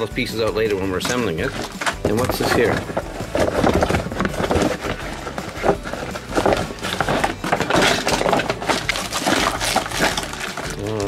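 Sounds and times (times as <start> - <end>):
plastic bag rustling: 0.7 - 11.0.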